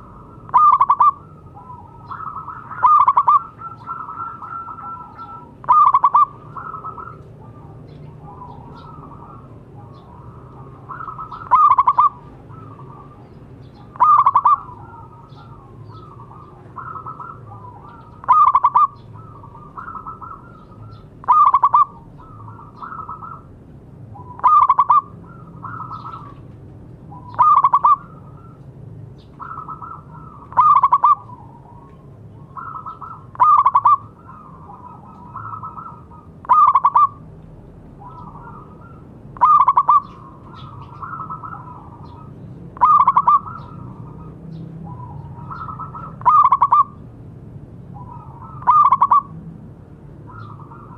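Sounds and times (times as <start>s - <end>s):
doves cooing: 0.0s - 37.3s, 37.9s - 47.1s, 47.9s - 49.4s, 50.2s - 50.9s.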